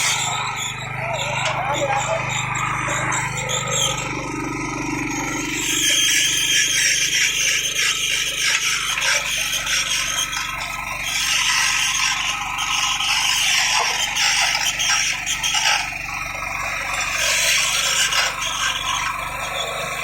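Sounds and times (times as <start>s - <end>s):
drill grating through steel rail: 0.0s - 20.0s.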